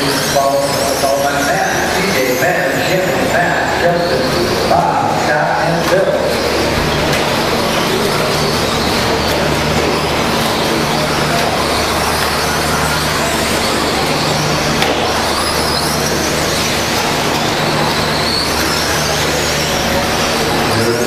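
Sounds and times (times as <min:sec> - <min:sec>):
rc truck motors whining: 0:00.0 - 0:21.0.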